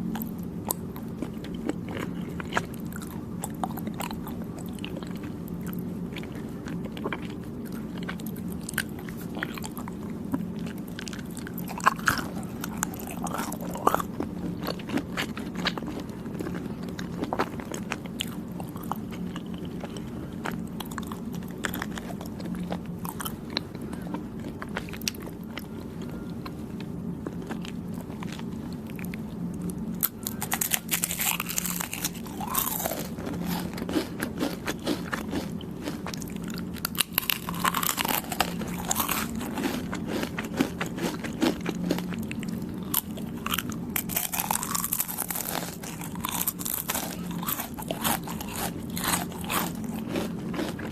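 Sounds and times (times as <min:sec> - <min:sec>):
chewing soft desserts: 0:00.0 - 0:50.9.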